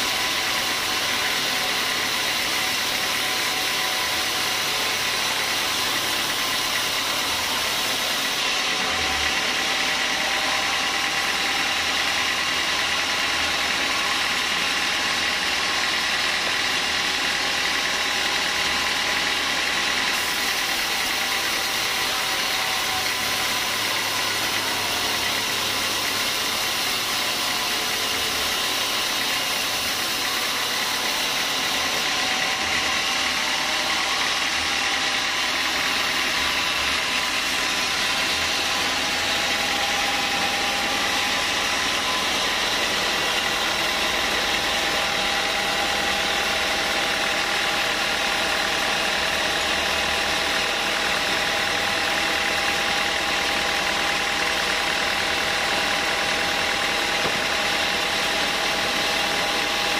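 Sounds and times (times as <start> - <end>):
band saw cutting wood: 0.0 - 59.9.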